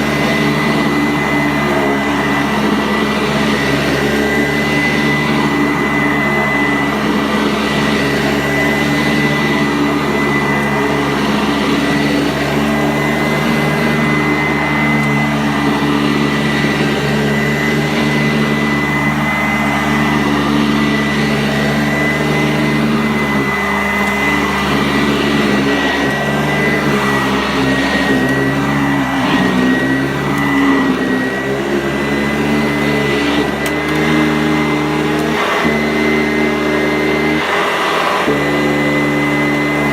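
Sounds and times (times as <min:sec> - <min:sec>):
vacuum cleaner running on carpet: 0:00.0 - 0:39.9.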